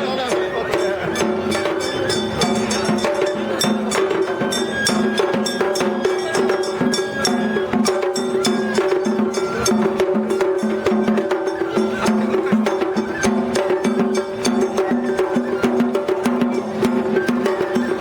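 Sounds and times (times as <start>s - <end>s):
drums: 0.0s - 18.0s.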